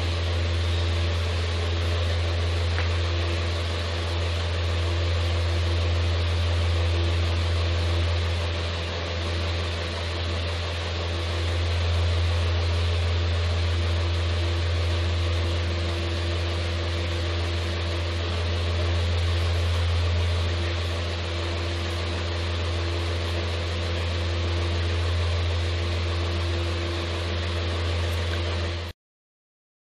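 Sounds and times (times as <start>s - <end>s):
constant hiss: 0.0s - 28.9s
low mechanical hum: 0.0s - 29.0s.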